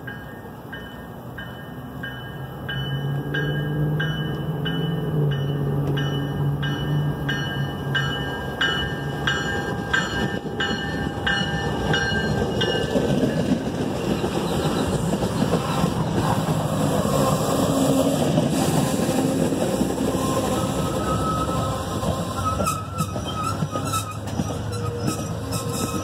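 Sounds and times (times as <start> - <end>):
train rumbling and clacking: 0.0 - 26.0.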